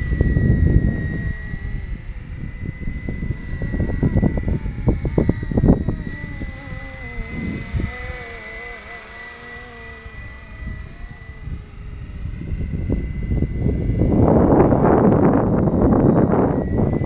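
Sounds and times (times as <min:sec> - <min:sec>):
rc helicopter whine: 0:00.0 - 0:17.0
wind buffeting microphone: 0:00.0 - 0:17.0.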